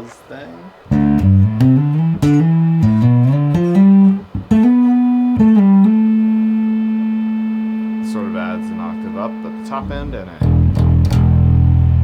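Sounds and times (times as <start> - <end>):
fuzz bass guitar notes: 0.9 - 12.0.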